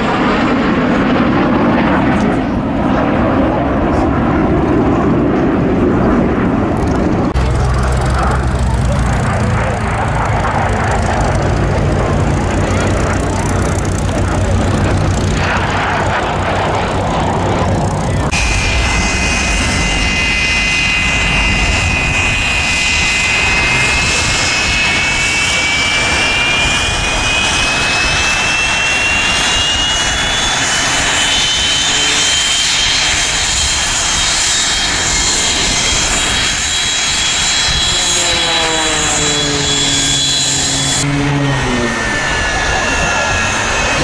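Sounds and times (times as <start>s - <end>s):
jet turbine whine: 0.0s - 44.0s
lower whine falling in pitch: 5.3s - 44.0s.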